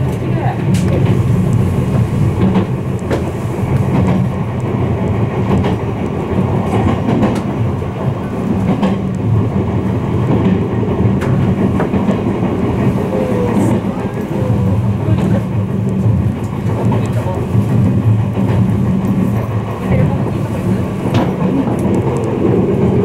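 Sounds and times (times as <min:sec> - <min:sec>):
rail joint clicks: 0:00.0 - 0:23.0
train wheels rumbling on rails: 0:00.0 - 0:23.0.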